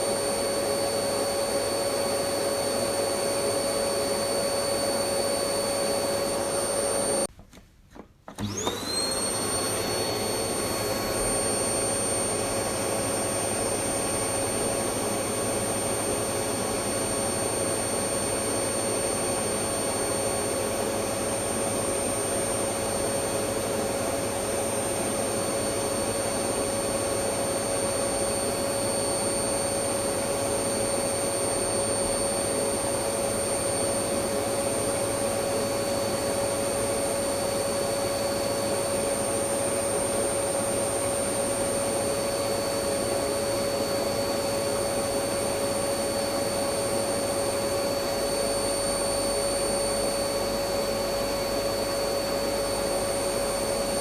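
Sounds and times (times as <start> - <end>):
vacuum cleaner whining: 0.0 - 7.3, 7.9 - 54.0.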